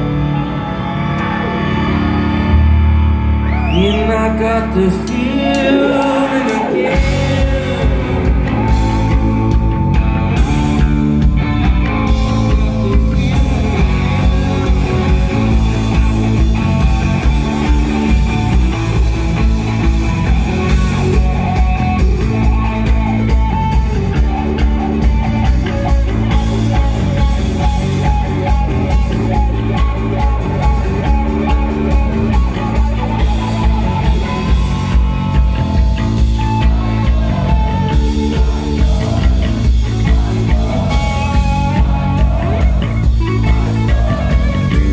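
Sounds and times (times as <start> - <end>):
distorted electric guitars: 0.0 - 44.9
driving drum beat: 5.1 - 44.9.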